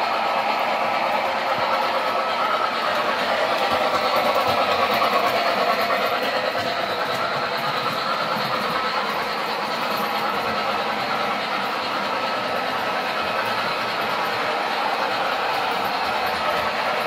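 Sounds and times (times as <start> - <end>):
model train rolling: 0.0 - 17.0.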